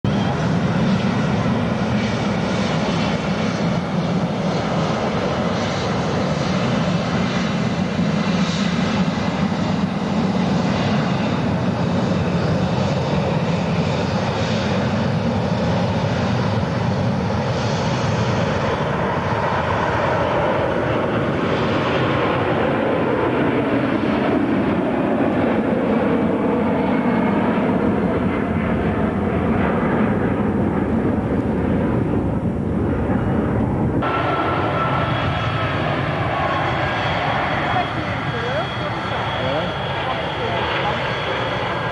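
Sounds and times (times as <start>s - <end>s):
airliner engines running: 0.0s - 41.9s.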